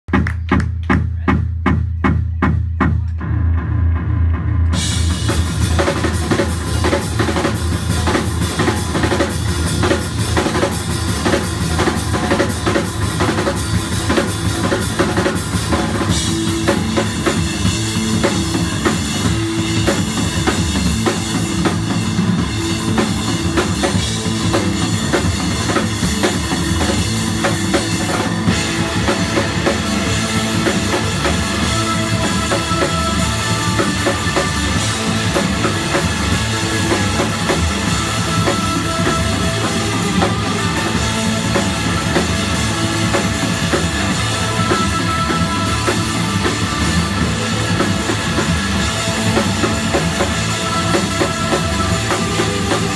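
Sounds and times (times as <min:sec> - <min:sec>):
drum beat: 0:00.1 - 0:03.2, 0:04.7 - 0:52.9
rock band playing: 0:00.1 - 0:52.9.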